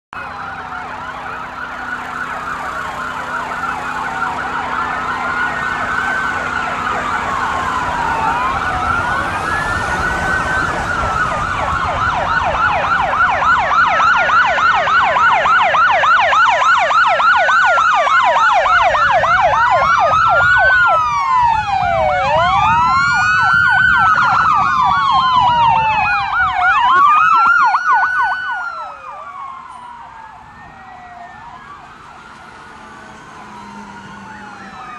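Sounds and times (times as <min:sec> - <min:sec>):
emergency vehicle sirens: 0:00.1 - 0:34.9
vehicles rumbling past: 0:00.2 - 0:34.9.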